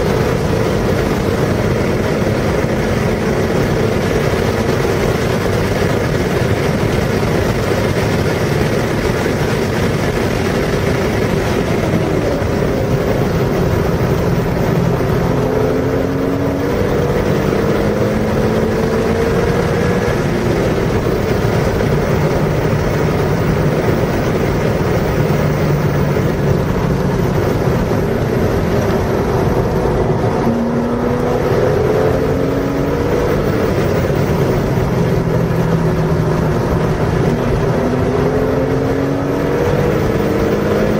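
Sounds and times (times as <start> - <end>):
car engine revving: 0.0 - 40.9
wind and road noise: 0.0 - 40.9.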